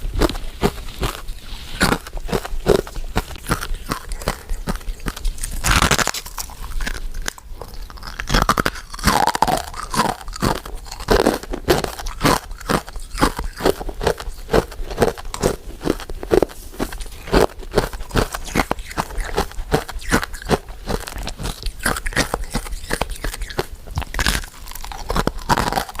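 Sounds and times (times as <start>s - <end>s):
person chewing mints: 0.0s - 26.0s
sharp mouth clicks: 0.6s - 14.3s, 18.0s - 26.0s.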